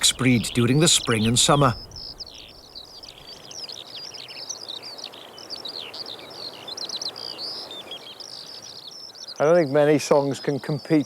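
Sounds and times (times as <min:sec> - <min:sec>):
faint steady hiss: 0:00.0 - 0:11.0
skylark singing: 0:00.0 - 0:11.0.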